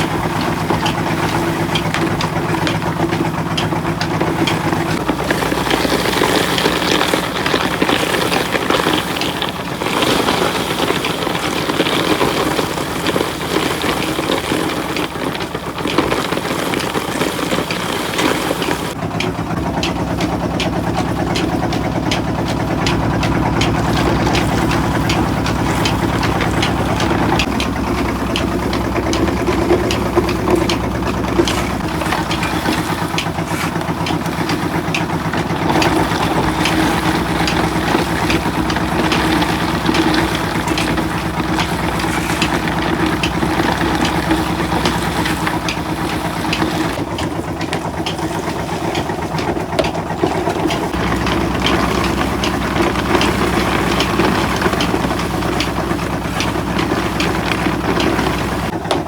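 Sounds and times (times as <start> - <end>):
machinery humming: 0.0 - 59.0
rapid clicking and rattling: 0.0 - 59.0.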